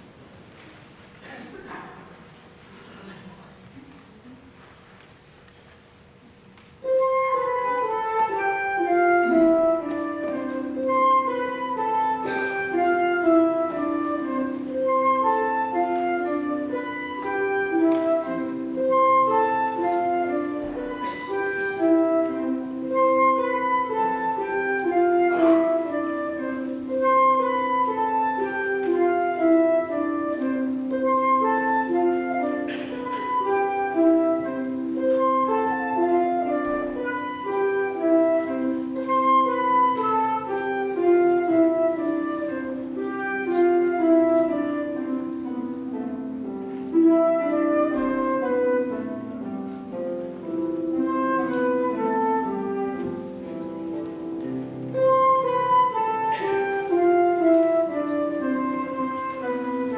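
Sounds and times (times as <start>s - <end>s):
pipe organ playing: 6.8s - 59.9s.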